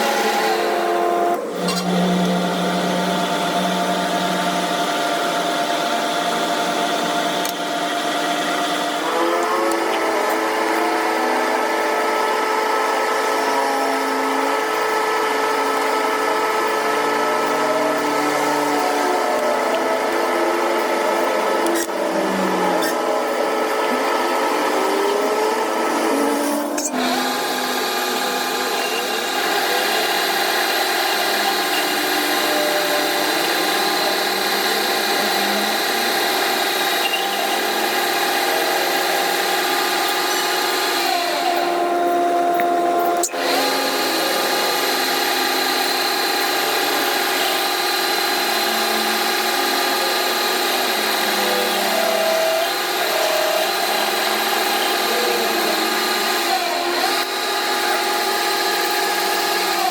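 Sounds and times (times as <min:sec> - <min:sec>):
electric power tool whining: 0:00.0 - 0:59.9.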